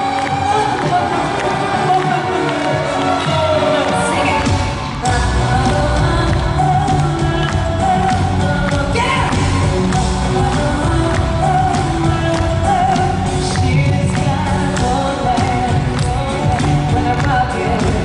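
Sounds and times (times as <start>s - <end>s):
live pop concert music: 0.0s - 18.0s
person singing: 0.0s - 18.0s.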